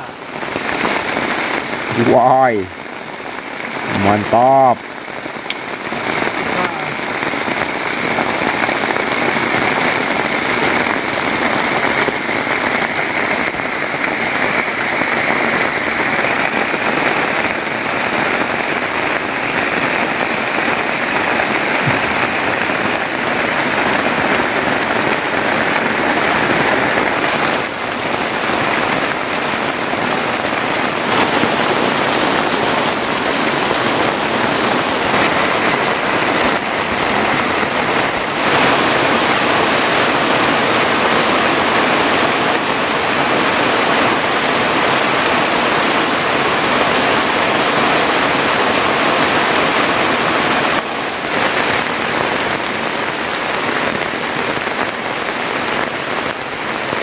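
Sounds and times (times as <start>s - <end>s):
heavy rain on plastic tarpaulin: 0.0s - 57.0s.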